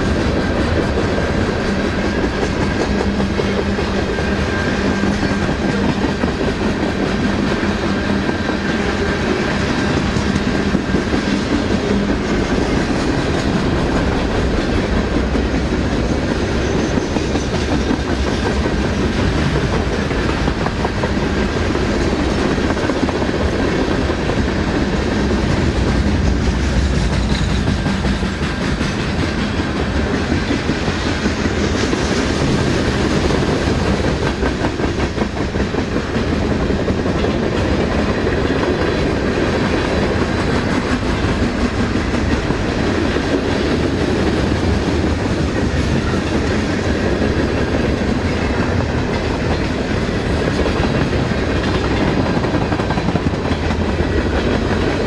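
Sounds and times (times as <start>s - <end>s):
clickety-clack over rail joints: 0.0s - 55.0s
steel wheels rumbling on rail: 0.0s - 55.0s.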